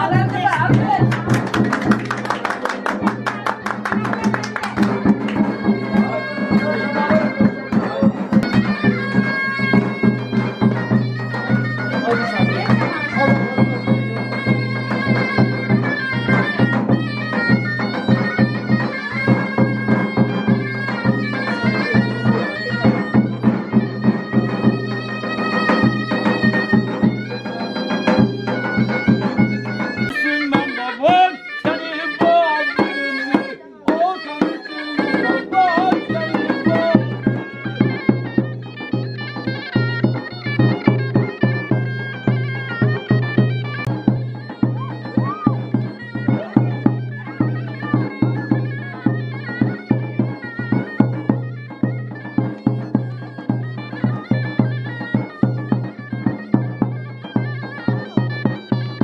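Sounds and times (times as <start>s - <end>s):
drum beats: 0.0s - 59.0s
reedy wind instrument melody: 0.0s - 59.0s.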